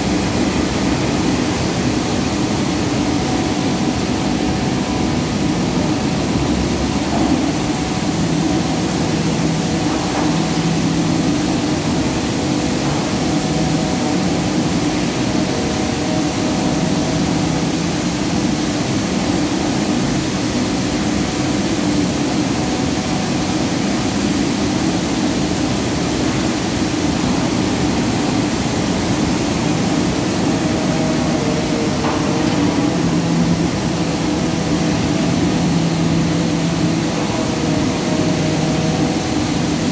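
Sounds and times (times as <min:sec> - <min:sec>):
industrial machinery din: 0:00.0 - 0:39.9.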